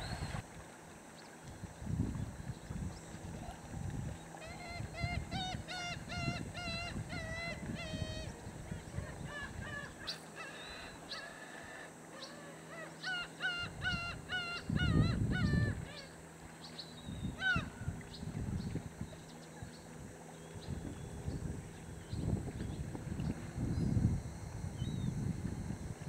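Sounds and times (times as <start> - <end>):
gulls calling: 0.0 - 0.4, 2.9 - 23.4.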